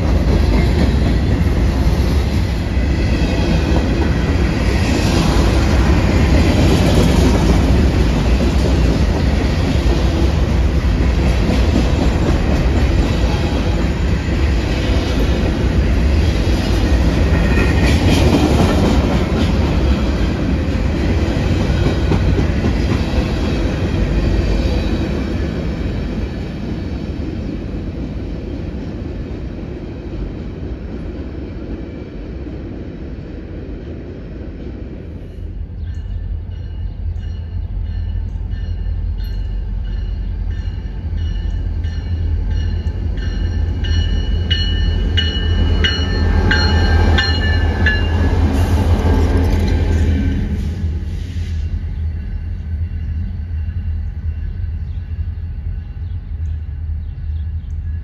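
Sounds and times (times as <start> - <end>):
steel wheels on rails: 0.0 - 27.5, 35.2 - 55.0
freight train rolling past: 0.0 - 58.0.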